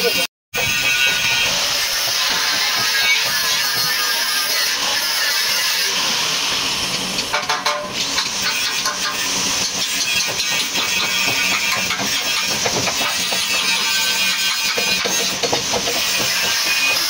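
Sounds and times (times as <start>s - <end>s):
hammer striking steel: 0.6s - 5.5s, 6.9s - 17.0s.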